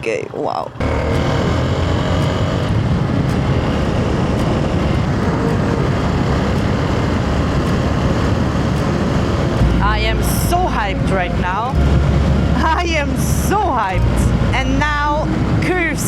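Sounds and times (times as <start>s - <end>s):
motorcycle engine running: 0.0s - 16.0s
wind noise on microphone: 0.9s - 16.0s.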